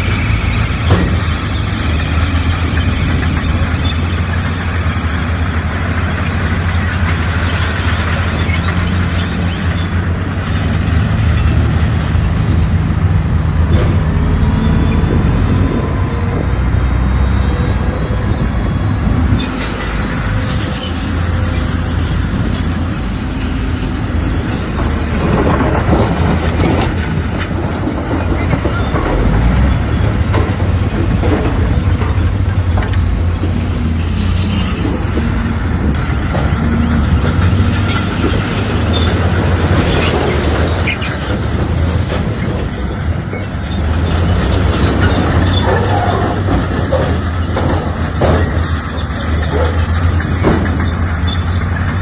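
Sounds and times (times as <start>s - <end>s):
bulldozer diesel engine running: 0.0s - 52.0s
crawler tracks clanking: 0.0s - 52.0s.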